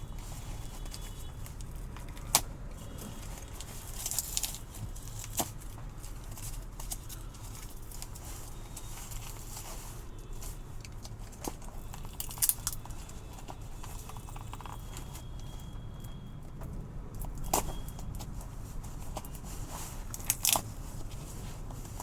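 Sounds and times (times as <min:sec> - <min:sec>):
packaging rustle: 0:00.0 - 0:15.8, 0:17.2 - 0:22.0.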